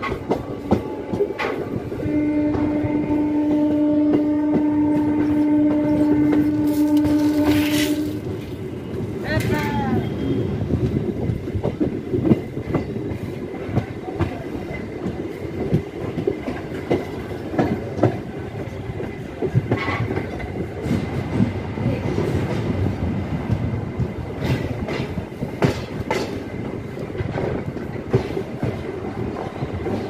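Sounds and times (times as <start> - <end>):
train rumble: 0.0 - 30.0
train wheels clattering: 0.0 - 30.0.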